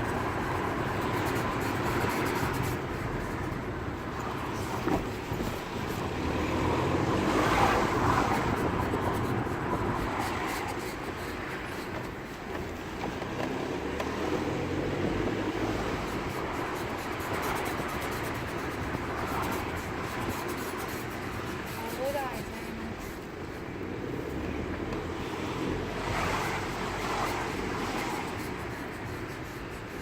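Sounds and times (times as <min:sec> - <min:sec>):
tyre and road noise: 0:00.0 - 0:30.0.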